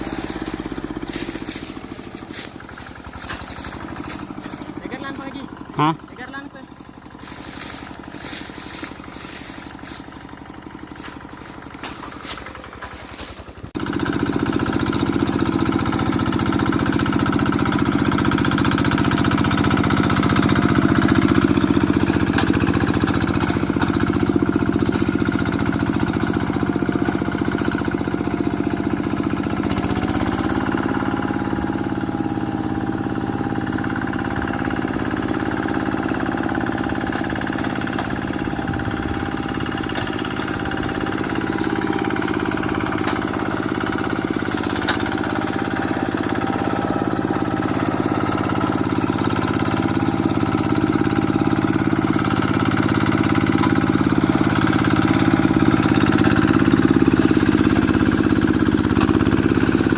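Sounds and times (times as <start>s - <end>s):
diesel engine idling and revving: 0.0s - 59.9s.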